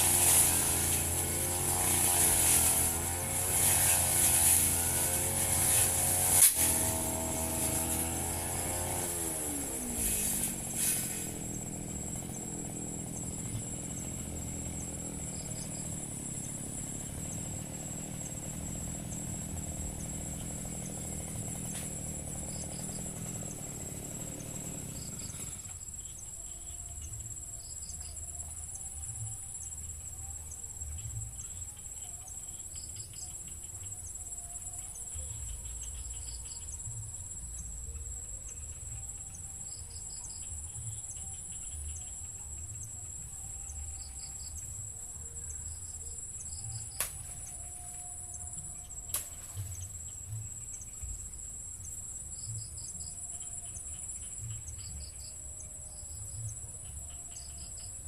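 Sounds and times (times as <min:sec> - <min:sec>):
insect chirps: 0:00.0 - 0:58.0
insects trilling: 0:00.0 - 0:58.0.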